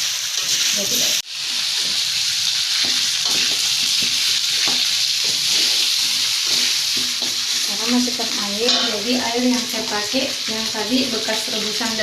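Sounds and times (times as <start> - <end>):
frying hiss in oil: 0.0 - 12.0.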